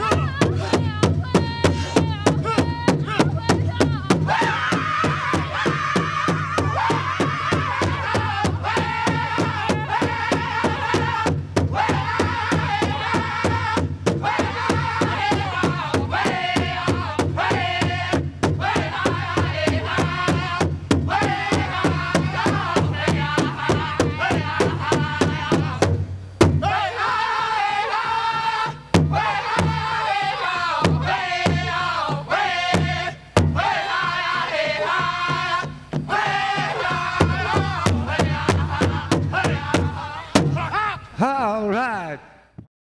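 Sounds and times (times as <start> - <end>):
large drum beating: 0.0 - 26.8, 30.8 - 40.7
men singing in chorus: 0.0 - 42.3.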